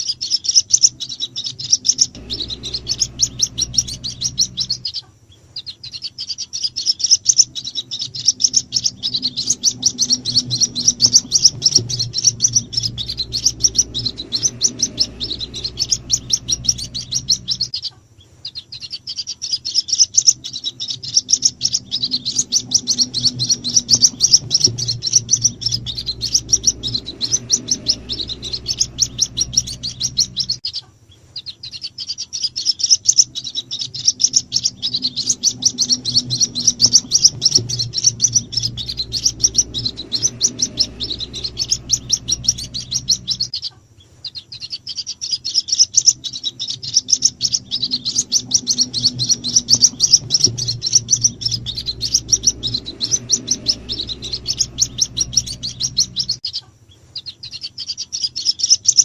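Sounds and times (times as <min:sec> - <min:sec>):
bird chicks peeping: 0:00.0 - 0:59.0.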